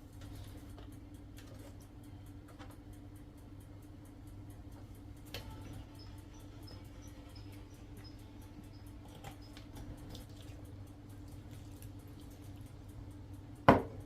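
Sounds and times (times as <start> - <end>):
low hum: 0.0 - 14.0
light ticks: 0.7 - 14.0.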